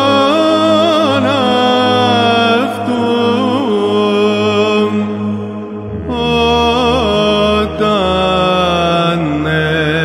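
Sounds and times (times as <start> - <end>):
held vocal drone: 0.0 - 10.0
person chanting ornamented melody: 0.0 - 10.0.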